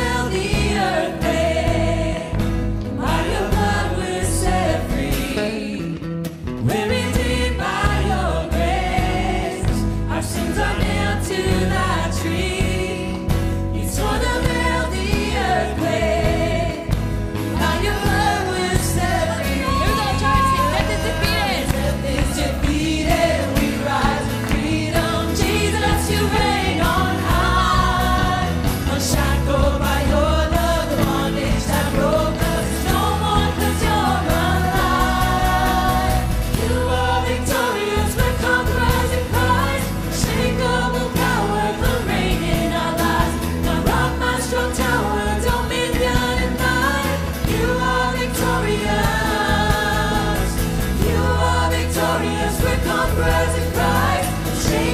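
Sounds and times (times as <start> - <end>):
voices singing together: 0.0 - 54.9
worship band playing: 0.0 - 54.9.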